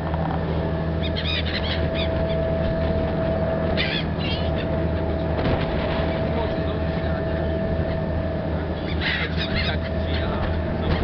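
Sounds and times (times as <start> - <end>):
ferry engine droning: 0.0 - 11.0
gulls calling: 0.0 - 11.0.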